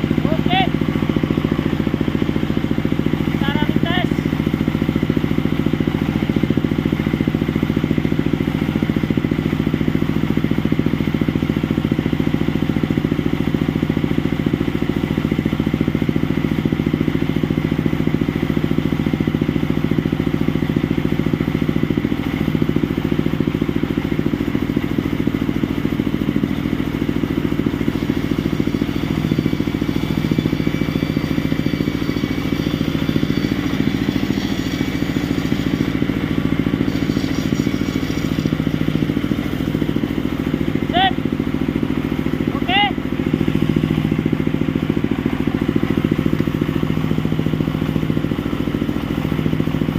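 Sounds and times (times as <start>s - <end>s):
generator engine running: 0.0s - 49.9s.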